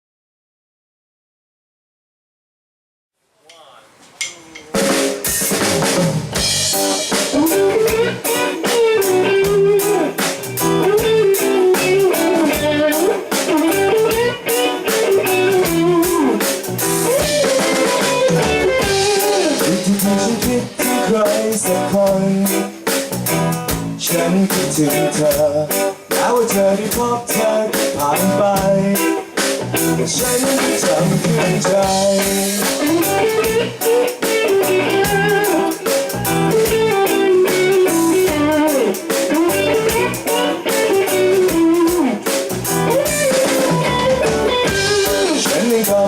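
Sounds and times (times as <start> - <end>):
drum beat: 3.5 - 46.0
bass guitar: 4.6 - 46.0
lead guitar melody: 4.7 - 46.0.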